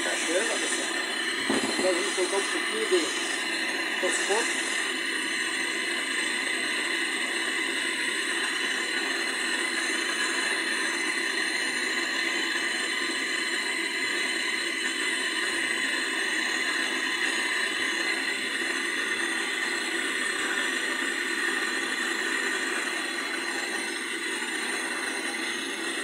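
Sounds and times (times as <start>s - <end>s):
gas torch hissing: 0.0s - 26.0s.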